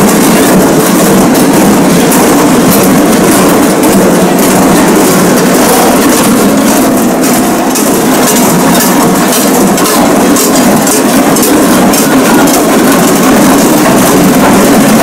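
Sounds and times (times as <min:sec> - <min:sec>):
large bells clanging: 0:00.0 - 0:15.0.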